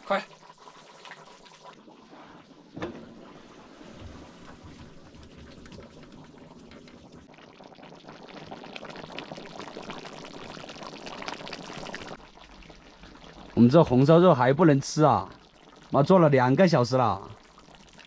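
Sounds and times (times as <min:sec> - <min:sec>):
pot bubbling: 0:00.0 - 0:18.0.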